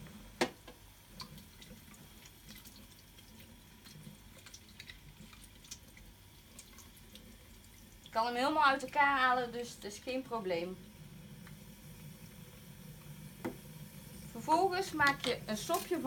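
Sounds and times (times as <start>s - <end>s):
tap water running into a sink: 0.0s - 16.0s.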